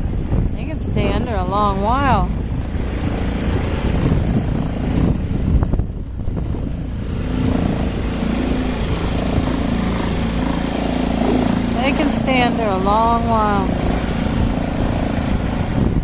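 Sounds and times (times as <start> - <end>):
boat motor rumbling: 0.0 - 16.0
wind buffeting microphone: 0.0 - 16.0.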